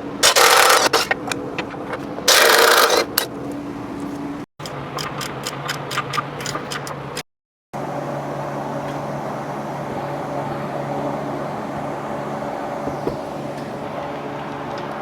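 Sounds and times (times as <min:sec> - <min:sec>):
steady mechanical hum: 0:00.0 - 0:07.2, 0:07.8 - 0:15.0.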